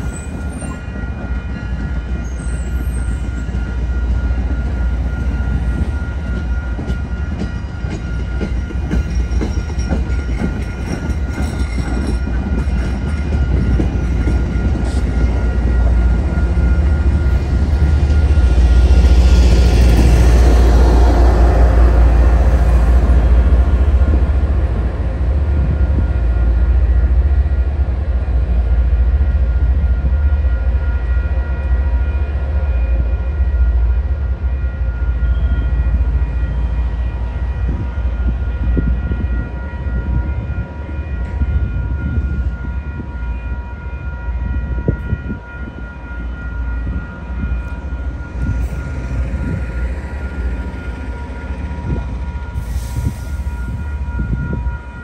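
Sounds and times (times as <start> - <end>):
locomotive rumbling past: 0.0 - 55.0.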